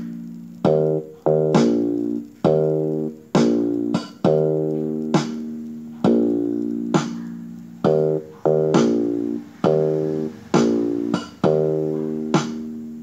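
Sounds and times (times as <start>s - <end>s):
plucked string chords: 0.0s - 13.0s.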